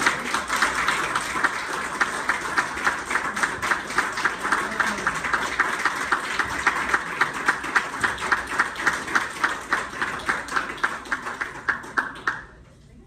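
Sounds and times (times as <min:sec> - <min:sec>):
group applauding: 0:00.0 - 0:12.7.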